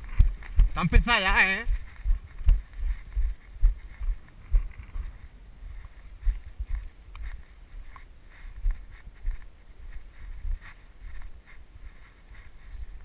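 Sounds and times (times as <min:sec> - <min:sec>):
wind on microphone: 0:01.6 - 0:13.0.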